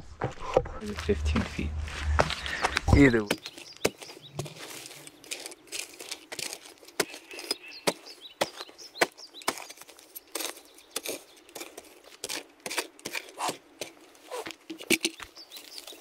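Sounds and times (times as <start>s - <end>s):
light crunching: 0.0s - 16.0s.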